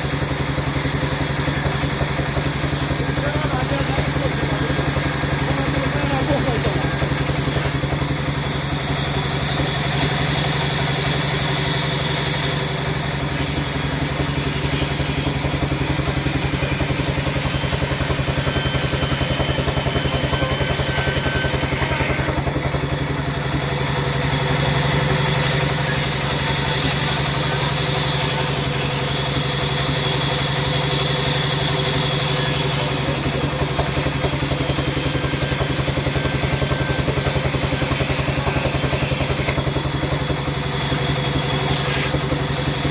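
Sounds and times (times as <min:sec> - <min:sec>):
sawmill machinery humming: 0:00.0 - 0:42.9.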